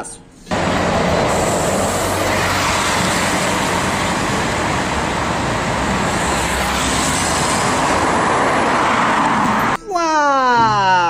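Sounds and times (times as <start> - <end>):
city street traffic: 0.2 - 9.9
buses driving past: 0.5 - 9.8.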